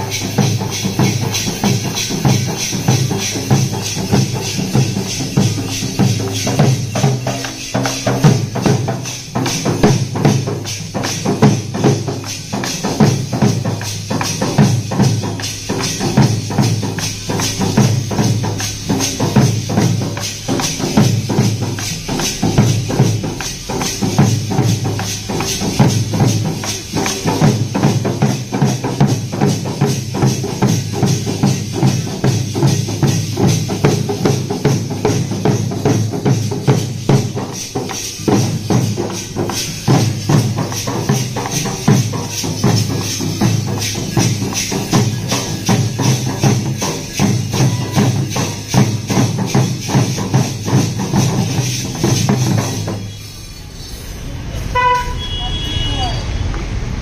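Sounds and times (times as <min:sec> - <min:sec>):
barrel drums beaten with sticks: 0:00.0 - 0:53.2.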